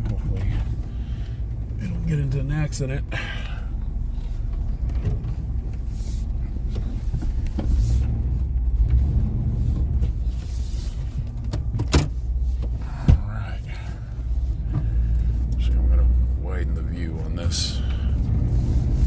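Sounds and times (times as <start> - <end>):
truck engine rumble from cab: 0.0 - 19.0.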